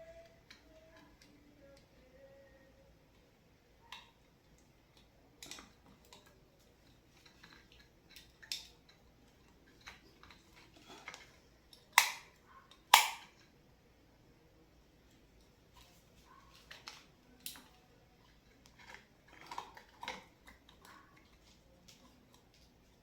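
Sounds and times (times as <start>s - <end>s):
wires being handled: 0.0s - 13.6s, 15.0s - 23.0s.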